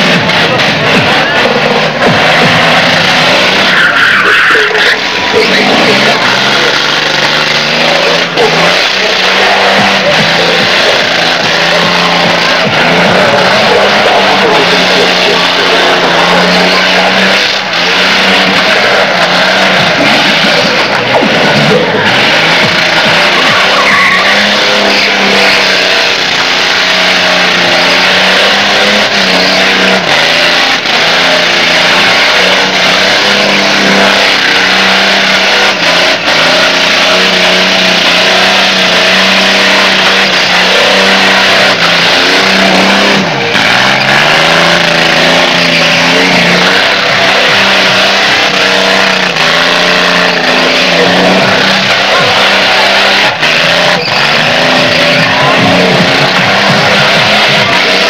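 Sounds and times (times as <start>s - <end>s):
car engine revving high: 0.0s - 58.0s
tyres squealing: 0.0s - 58.0s.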